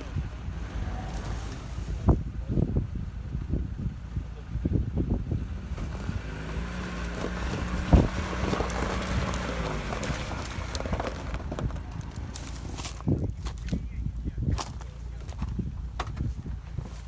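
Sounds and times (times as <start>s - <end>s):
car engine running: 0.0s - 17.0s
wind noise on microphone: 0.0s - 17.0s.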